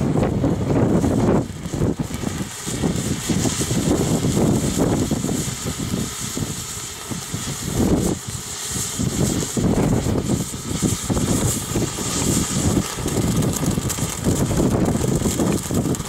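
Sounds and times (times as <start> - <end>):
firework fountain hissing: 0.0 - 16.0
low rumbling: 0.0 - 16.0.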